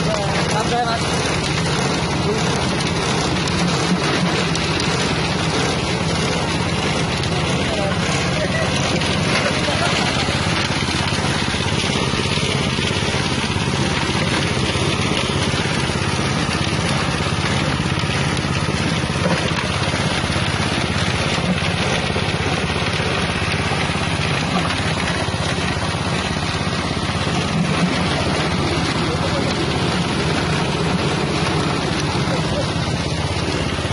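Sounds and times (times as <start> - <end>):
engine drone: 0.0 - 33.9
spinning grinder rush: 0.0 - 33.9.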